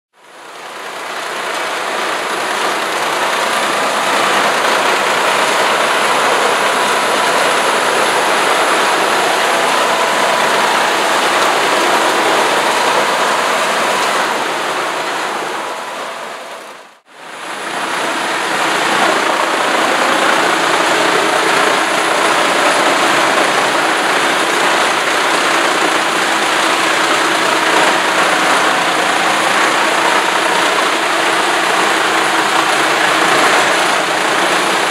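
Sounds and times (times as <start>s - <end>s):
wood chipper chipping logs: 0.2s - 34.9s.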